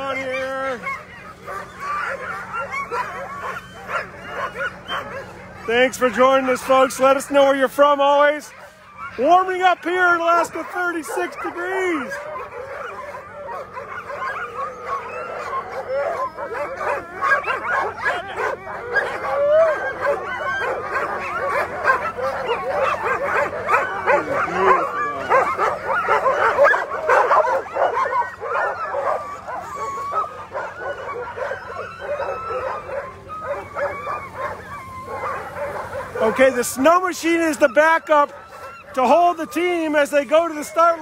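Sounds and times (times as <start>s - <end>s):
dogs barking and howling: 0.0s - 41.0s.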